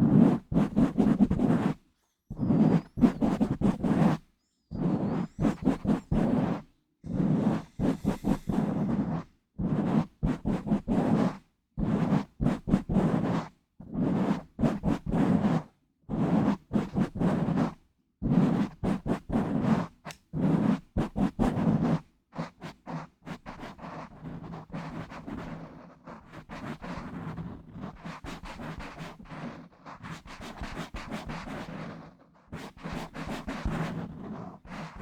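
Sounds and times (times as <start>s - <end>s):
fingers scratching on microphone: 0.0s - 35.0s.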